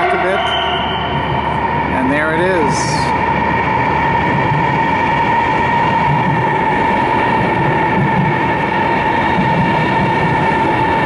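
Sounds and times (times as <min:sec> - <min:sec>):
high-pitched train whine: 0:00.0 - 0:11.0
train rushing rumble: 0:00.0 - 0:11.0.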